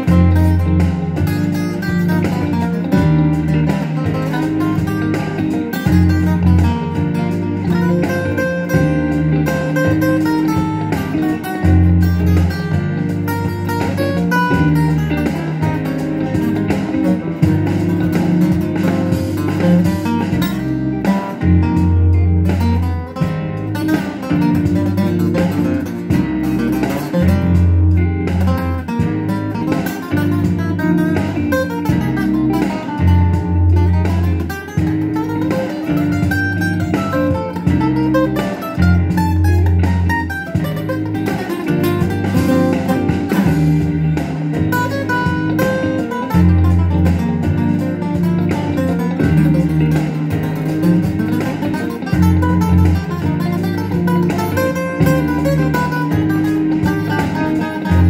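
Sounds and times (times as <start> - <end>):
acoustic guitar plucking: 0.0 - 58.0.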